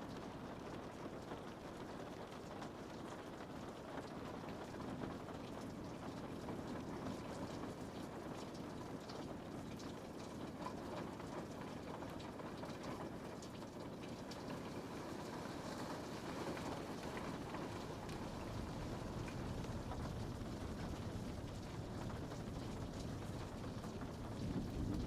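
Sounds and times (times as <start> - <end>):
rain pattering on a window: 0.0 - 25.0.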